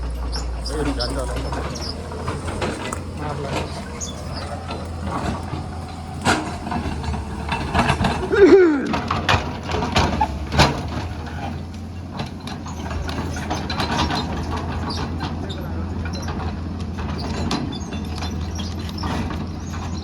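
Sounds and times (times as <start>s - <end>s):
excavator engine running: 0.0s - 20.0s
sharp knocks and clanks: 0.0s - 20.0s.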